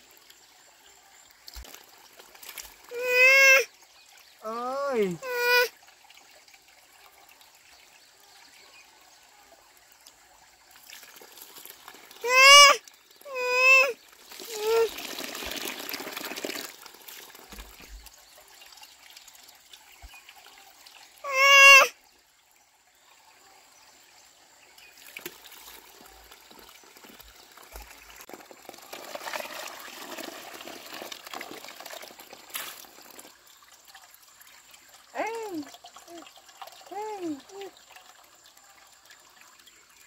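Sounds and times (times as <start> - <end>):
water splashing and trickling: 0.0 - 40.0.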